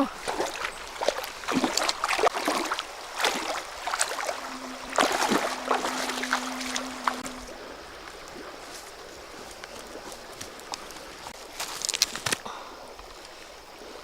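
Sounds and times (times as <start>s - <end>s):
faint steady hum: 0.0s - 11.3s
water splashing in a river: 0.0s - 14.0s.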